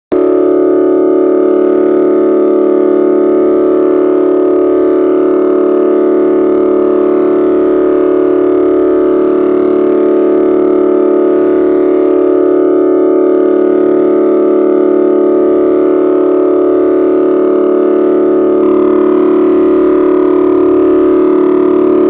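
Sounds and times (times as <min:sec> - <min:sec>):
electronic droning tone: 0:00.1 - 0:22.0.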